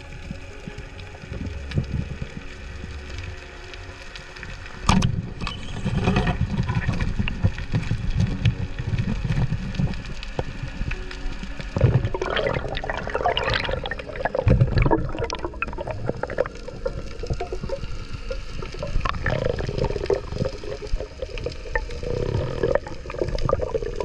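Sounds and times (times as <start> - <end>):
deep water surges: 0.0 - 24.0
muffled underwater rushing and bubbling: 0.0 - 24.0
sharp crackling clicks: 0.0 - 24.0.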